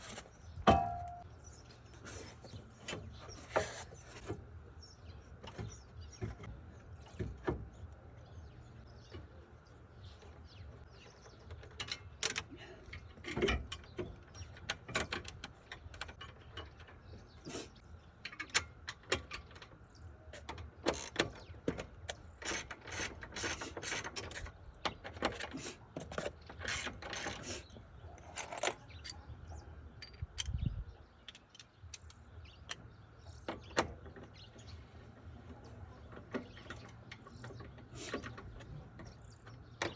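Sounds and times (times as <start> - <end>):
tools and car parts clacking: 0.0 - 1.3, 5.3 - 7.9, 10.2 - 39.9.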